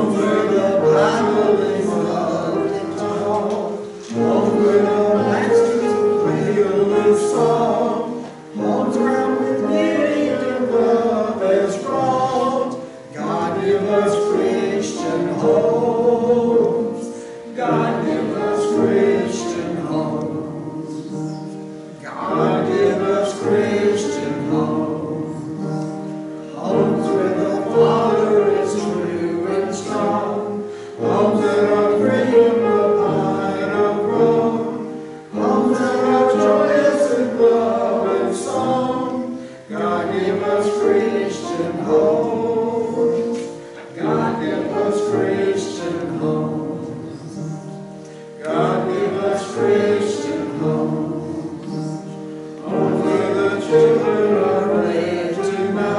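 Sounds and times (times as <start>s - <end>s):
congregation singing a hymn: 0.0s - 55.9s.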